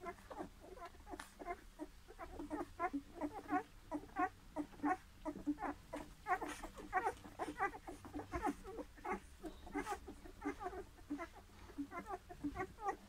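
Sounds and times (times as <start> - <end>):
puppies squeaking: 0.0 - 13.0.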